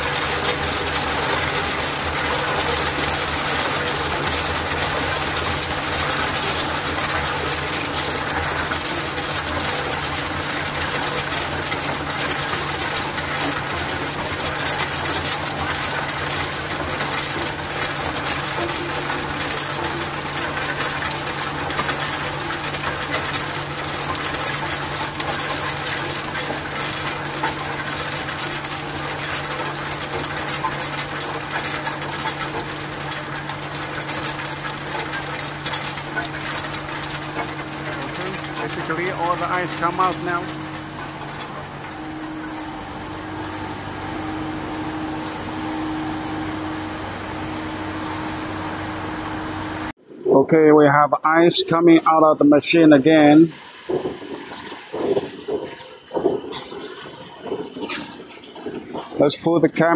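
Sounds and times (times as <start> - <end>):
ice cylinders clattering into hopper: 0.0 - 46.0, 54.0 - 59.9
ice machine humming: 0.0 - 50.0, 51.0 - 59.9.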